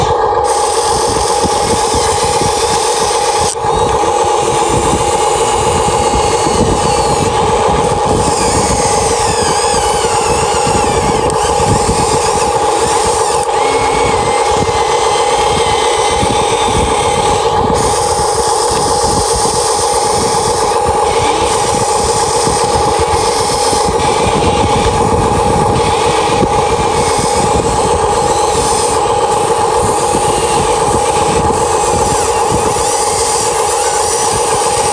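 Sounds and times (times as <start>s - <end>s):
toy excavator motors whining: 0.0s - 34.9s.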